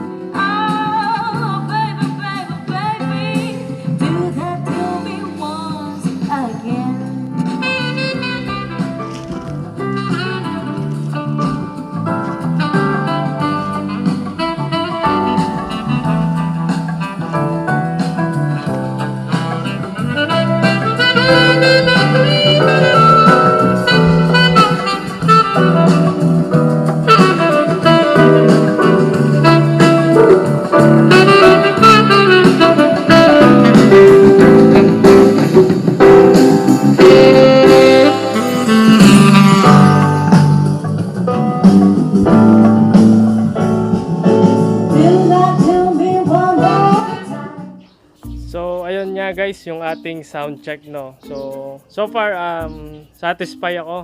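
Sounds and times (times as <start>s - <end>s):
soft rock saxophone music: 0.0s - 54.0s.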